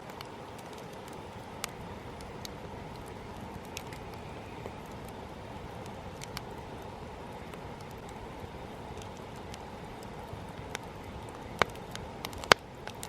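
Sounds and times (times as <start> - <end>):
fire crackles and pops: 0.0 - 13.0
low rush of flames: 0.0 - 13.0.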